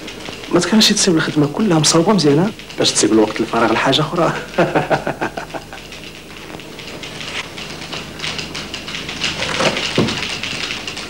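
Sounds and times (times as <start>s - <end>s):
typewriter keys clacking: 0.0s - 11.0s.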